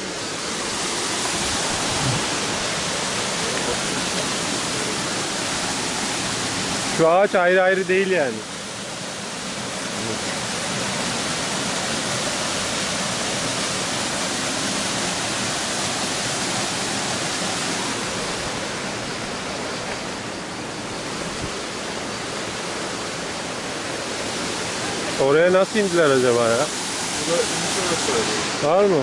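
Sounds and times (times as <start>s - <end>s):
waterfall rushing into pool: 0.0s - 29.0s.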